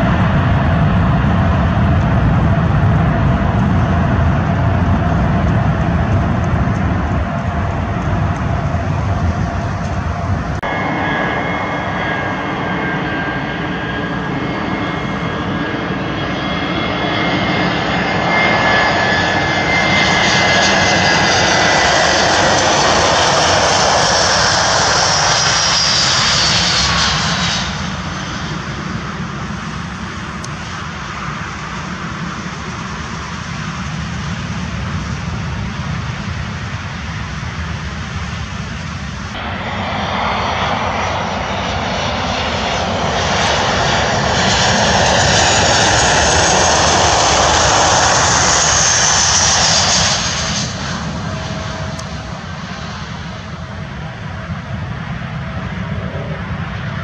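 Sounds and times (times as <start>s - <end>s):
heavy low jet rumble: 0.0s - 57.0s
jet engine whine: 0.0s - 57.0s
jet rolling on runway: 0.0s - 57.0s.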